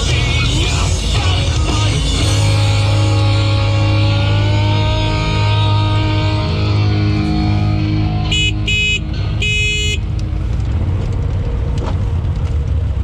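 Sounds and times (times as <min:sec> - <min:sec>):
rock music: 0:00.0 - 0:11.1
vehicle engine rumbling: 0:00.0 - 0:13.0.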